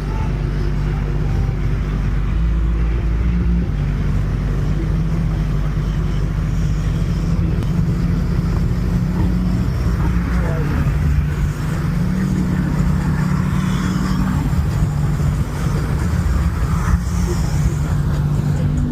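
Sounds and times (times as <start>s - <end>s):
low engine hum in car cabin: 0.0s - 18.9s
road noise: 0.0s - 18.9s.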